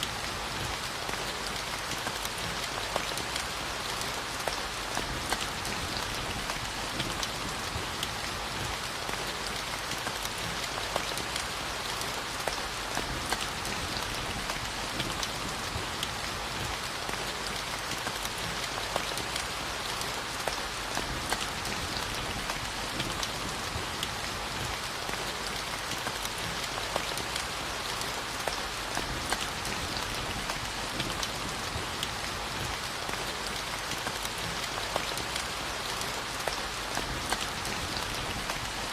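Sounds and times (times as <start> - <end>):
raindrops pattering on a surface: 0.0 - 38.9
steady rainfall: 0.0 - 38.9.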